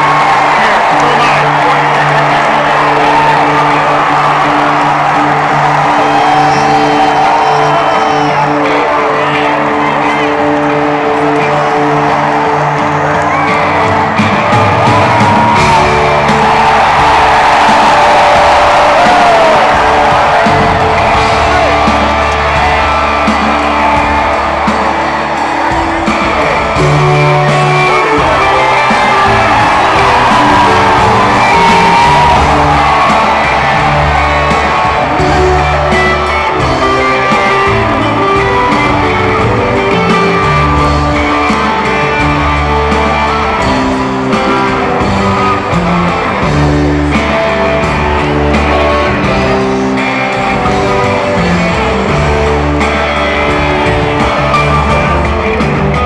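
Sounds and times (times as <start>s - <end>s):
live rock band: 0.0s - 56.0s.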